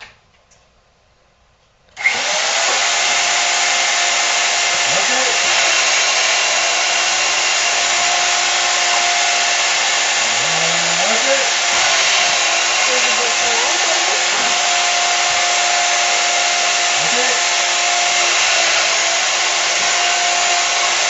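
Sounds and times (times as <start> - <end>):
drill press motor humming: 2.0 - 21.0.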